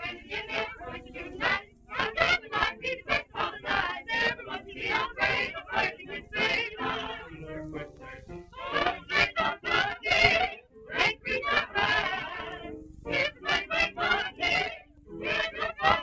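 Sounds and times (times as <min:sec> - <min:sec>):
mixed choir singing with vibrato: 0:00.0 - 0:16.0.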